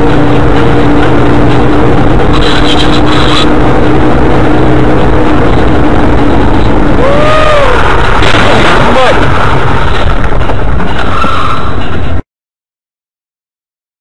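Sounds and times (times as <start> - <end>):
rising and falling whine: 0.0 - 11.8
vehicle road and engine noise: 0.0 - 12.2.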